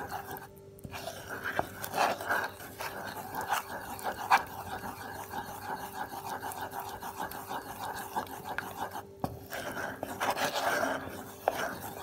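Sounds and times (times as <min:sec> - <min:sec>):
wooden spoon scraping saucepan: 0:00.0 - 0:12.0.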